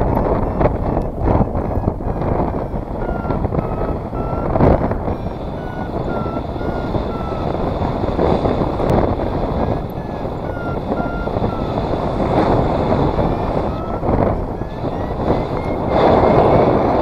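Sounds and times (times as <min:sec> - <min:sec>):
wind rush on microphone: 0:00.0 - 0:17.0
variometer short beeps: 0:02.6 - 0:16.4.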